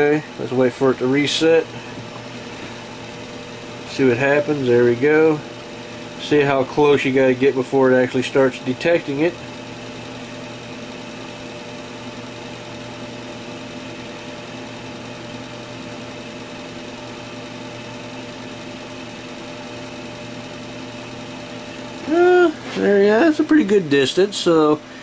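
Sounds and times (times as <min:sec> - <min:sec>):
small electric motor humming: 0:00.0 - 0:25.0.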